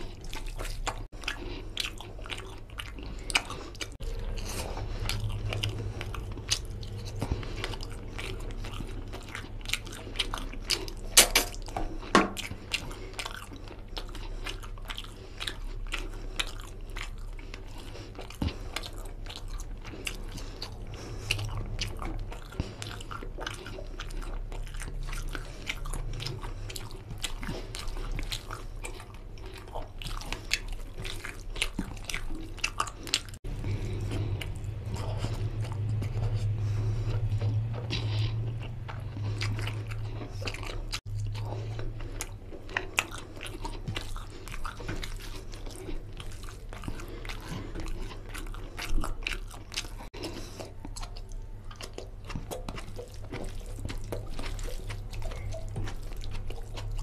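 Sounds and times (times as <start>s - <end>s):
fingers squishing curry and rice: 0.0s - 57.0s
wet chewing clicks: 0.0s - 57.0s.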